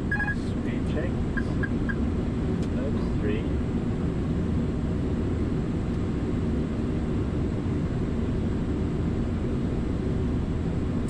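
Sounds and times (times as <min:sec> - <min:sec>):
aircraft systems hum: 0:00.0 - 0:11.0
rushing air in aircraft cockpit: 0:00.0 - 0:11.0.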